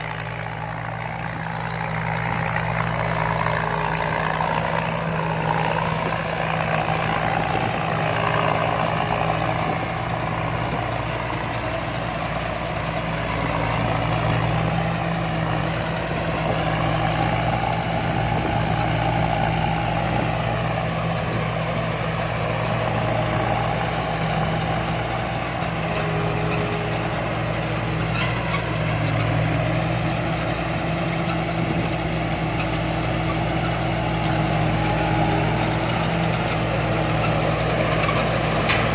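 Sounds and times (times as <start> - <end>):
harvester engine humming: 0.0 - 38.9.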